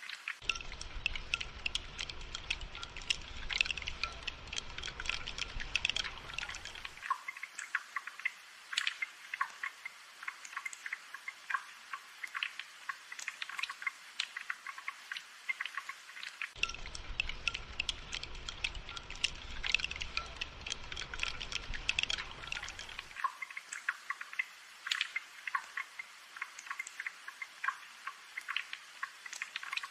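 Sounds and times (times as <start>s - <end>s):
rain falling: 0.0s - 29.9s.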